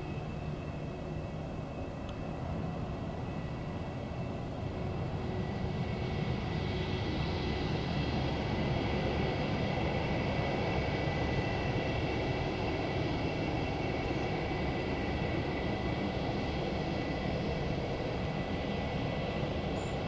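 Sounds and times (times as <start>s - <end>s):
jet engines whining and rumbling: 0.0s - 20.0s.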